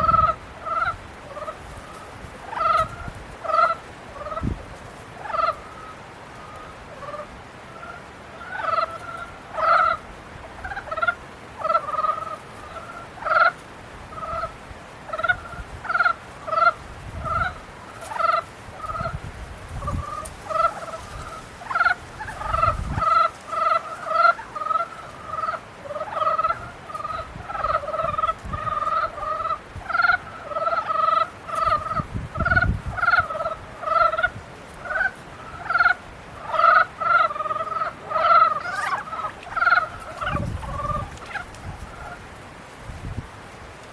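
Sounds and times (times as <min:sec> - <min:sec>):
chorus of frogs croaking: 0:00.0 - 0:42.5.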